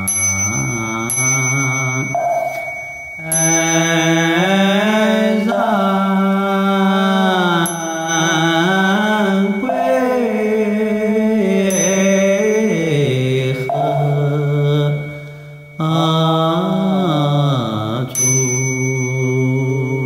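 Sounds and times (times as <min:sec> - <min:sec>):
slow chant in held notes: 0:00.0 - 0:20.0
small bell ringing: 0:00.0 - 0:20.0.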